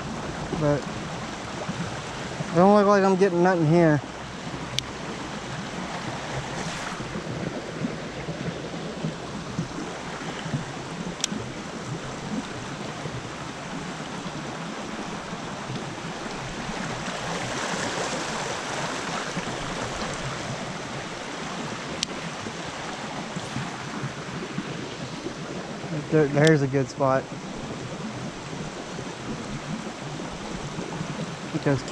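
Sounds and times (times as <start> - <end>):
creek water rushing over rocks: 0.0 - 31.9.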